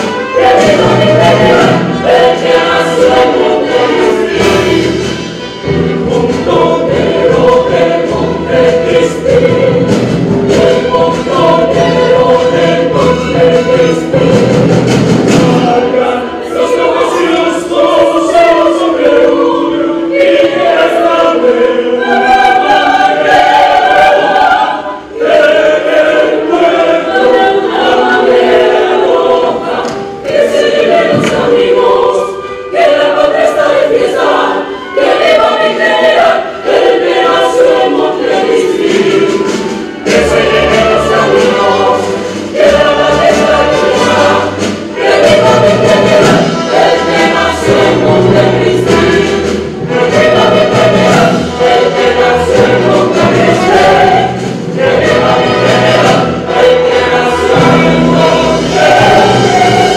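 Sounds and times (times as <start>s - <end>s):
instrumental accompaniment: 0.0s - 59.9s
opera chorus singing: 0.0s - 59.9s.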